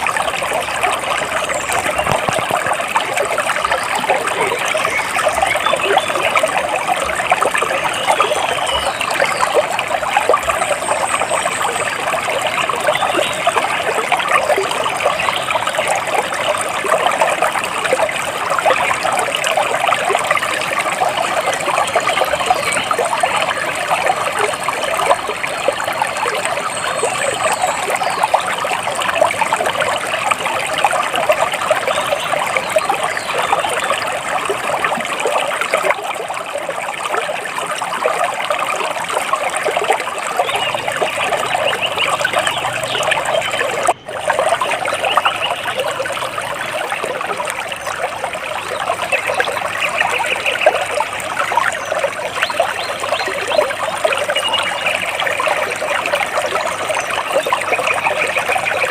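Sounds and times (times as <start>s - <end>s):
water splashing and trickling: 0.0s - 58.9s.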